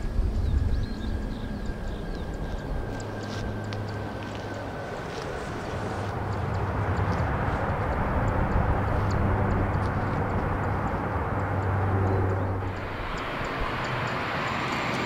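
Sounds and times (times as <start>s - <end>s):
jet engine rushing with low hum: 0.0s - 15.0s.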